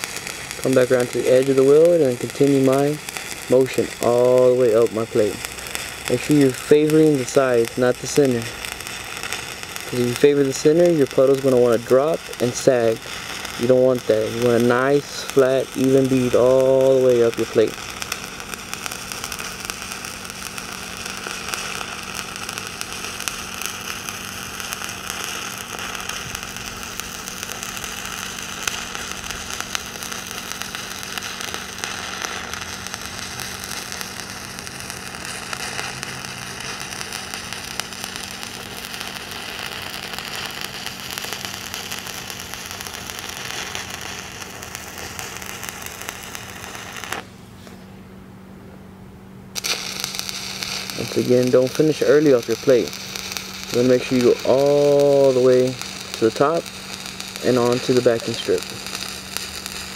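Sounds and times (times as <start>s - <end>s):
welding arc crackling: 0.0s - 47.4s, 49.5s - 59.9s
steady low hum: 0.0s - 59.9s.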